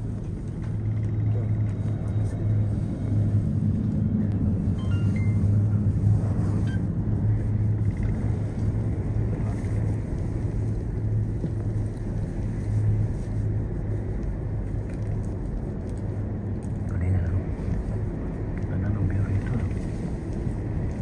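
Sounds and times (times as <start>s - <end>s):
cable car cabin rumbling: 0.0s - 21.0s.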